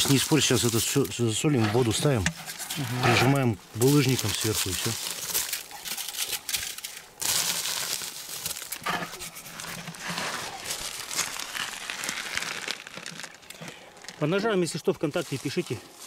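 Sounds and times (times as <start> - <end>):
hands scraping fish in barrel: 0.0 - 13.4
crinkly rustling of plastic: 0.0 - 16.0.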